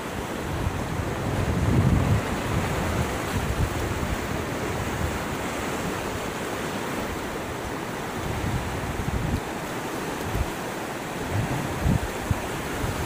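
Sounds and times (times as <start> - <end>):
river rapids rushing: 0.0 - 13.0
wind rumbling on microphone: 0.0 - 13.0.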